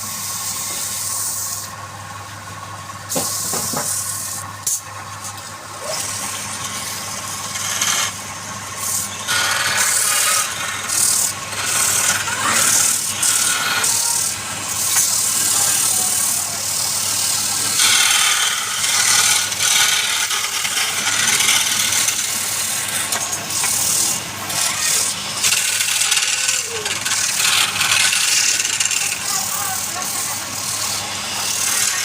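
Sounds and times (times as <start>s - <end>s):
power tool grinding wood: 3.1s - 4.5s, 5.2s - 32.0s.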